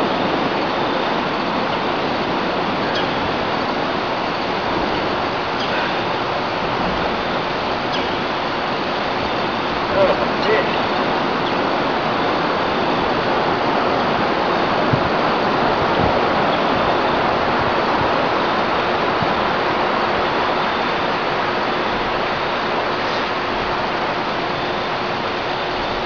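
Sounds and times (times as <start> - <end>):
river water running over rocks: 0.0 - 26.0.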